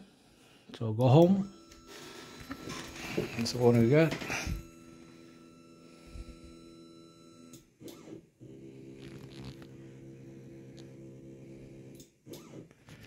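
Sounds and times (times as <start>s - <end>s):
low electrical hum: 0.1s - 12.1s.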